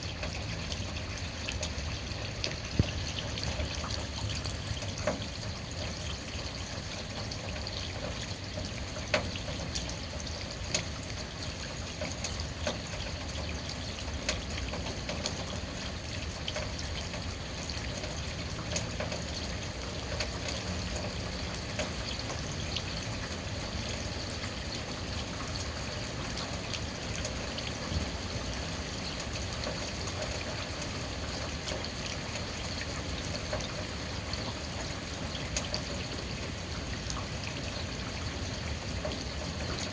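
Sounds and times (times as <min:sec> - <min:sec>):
rainwater trickling: 0:00.0 - 0:39.9
sharp water drips: 0:00.0 - 0:39.9.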